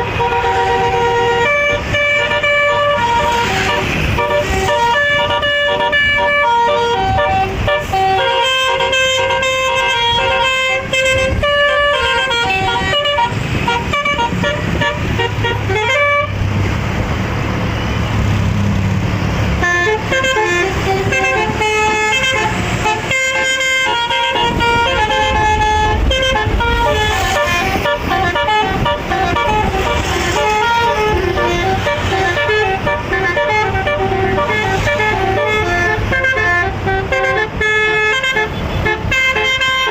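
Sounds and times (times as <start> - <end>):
bus trumpet horn melody: 0.0 - 16.6, 19.5 - 39.9
rushing noise: 0.0 - 37.6
low engine rumble: 0.0 - 39.9.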